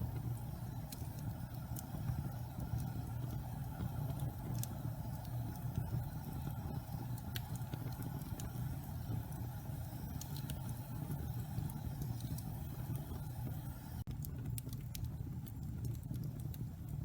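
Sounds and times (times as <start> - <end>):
low fire rumble: 0.0 - 17.0
wood fire crackling and popping: 0.0 - 17.0.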